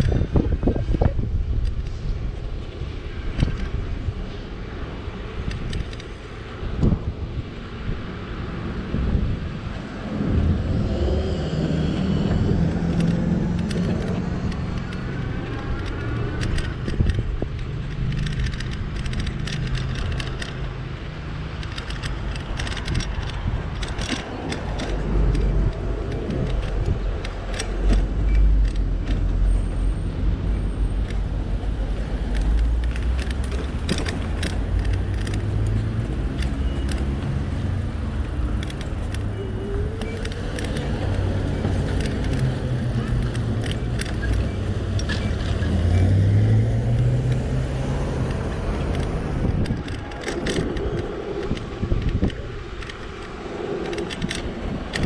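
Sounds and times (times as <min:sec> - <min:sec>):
low rumble of cars: 0:00.0 - 0:55.0.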